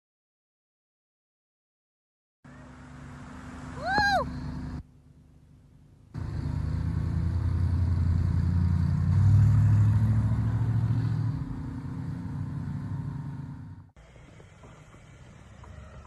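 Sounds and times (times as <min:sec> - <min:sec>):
vehicle engine rumbling: 0:02.5 - 0:16.0.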